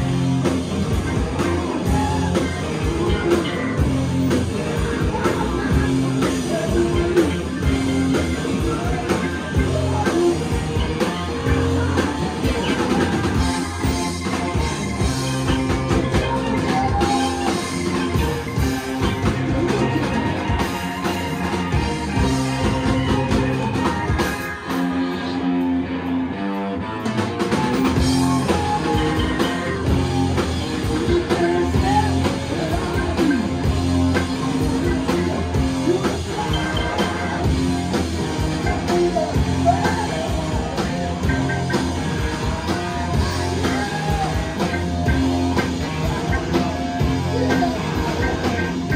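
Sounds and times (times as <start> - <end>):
person singing: 0.0 - 25.6, 27.6 - 48.9
live rock band playing: 0.0 - 48.9.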